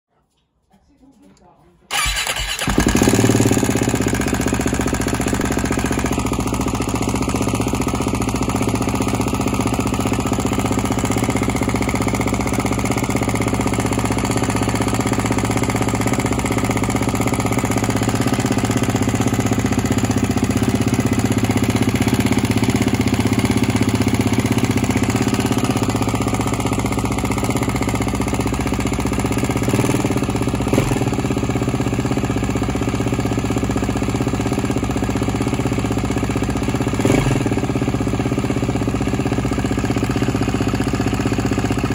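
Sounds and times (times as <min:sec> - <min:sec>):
motorcycle engine idling: 0:01.9 - 0:41.9.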